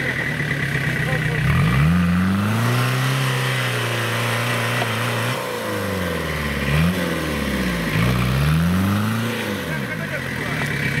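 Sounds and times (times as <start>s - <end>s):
tractor engine revving: 0.0s - 11.0s.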